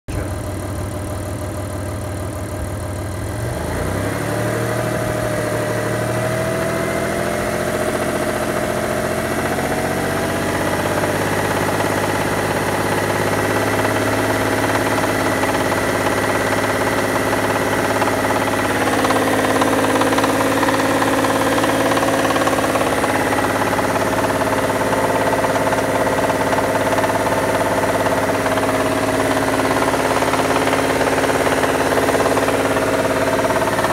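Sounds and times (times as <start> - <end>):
car engine idling with knock: 0.1 - 33.9.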